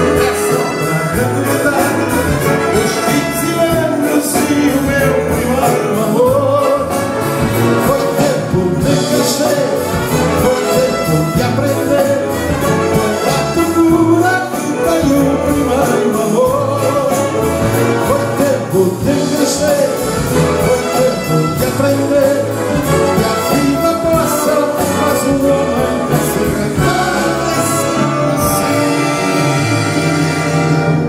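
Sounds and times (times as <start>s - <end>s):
man singing: 0.0s - 30.5s
concert band playing: 0.0s - 31.0s.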